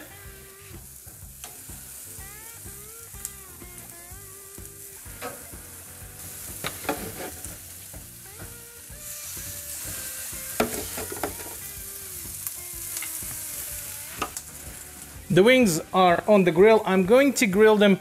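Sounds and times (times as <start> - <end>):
chicken wings sizzling on grill: 0.0 - 18.0.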